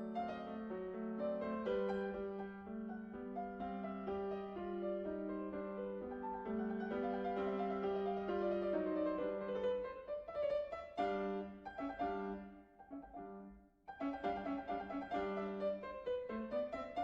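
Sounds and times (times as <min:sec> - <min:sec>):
classical piano music: 0:00.0 - 0:17.0.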